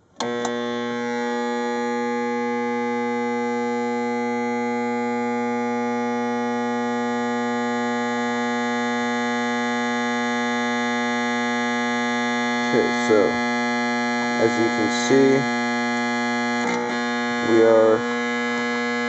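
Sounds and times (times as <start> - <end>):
transformer buzzing: 0.0 - 19.0.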